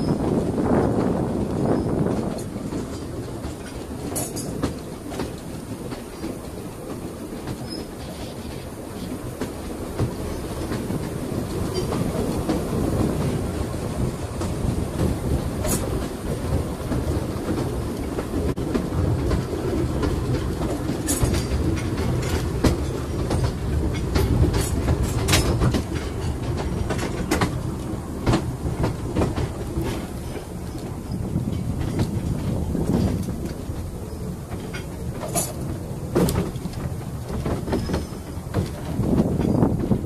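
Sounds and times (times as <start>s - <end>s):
train wheels rumbling on track: 0.0s - 40.0s
wheels clanking over rail joints: 0.0s - 40.0s.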